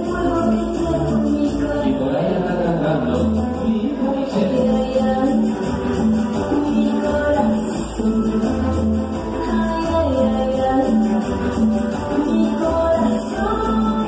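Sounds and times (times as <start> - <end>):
loud dance music: 0.0 - 14.0
steady bass beat: 0.0 - 14.0.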